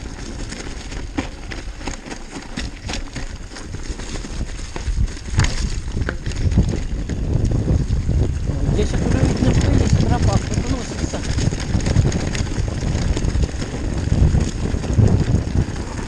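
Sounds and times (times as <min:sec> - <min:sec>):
mountain bike rattling over stones: 0:00.0 - 0:16.0
wind rumble on microphone: 0:00.0 - 0:16.0.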